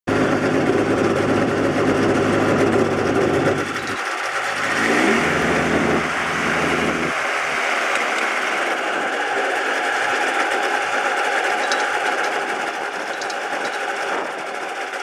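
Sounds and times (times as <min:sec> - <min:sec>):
motorized glider engine running: 0:00.1 - 0:15.0.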